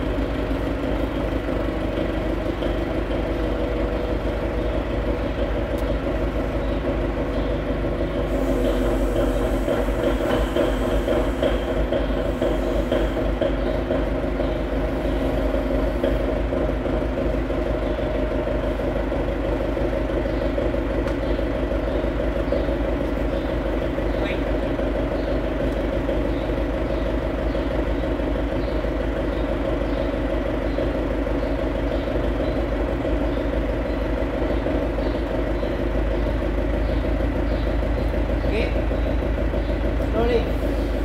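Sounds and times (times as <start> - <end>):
forklift engine running: 0.0 - 41.0.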